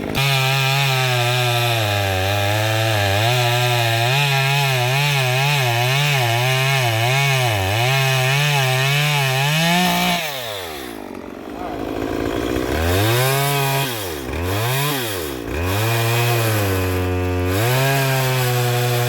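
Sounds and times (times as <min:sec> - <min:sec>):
chainsaw cutting log: 0:00.0 - 0:19.0.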